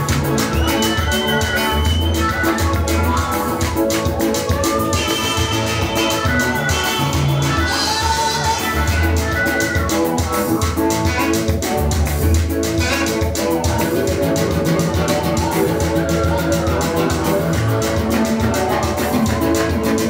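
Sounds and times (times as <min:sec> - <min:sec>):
up-tempo gospel dance music: 0:00.0 - 0:20.0.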